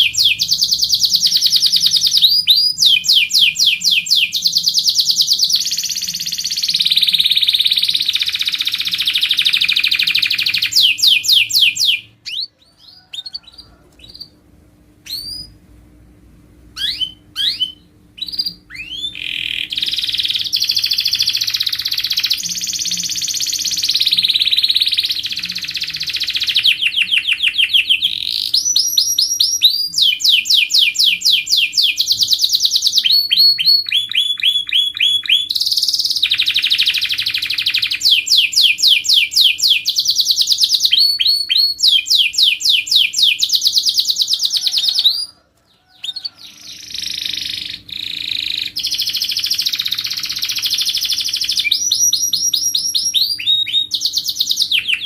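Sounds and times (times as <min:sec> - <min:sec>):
canary singing trills: 0:00.0 - 0:14.4, 0:15.0 - 0:15.6, 0:16.8 - 0:55.0.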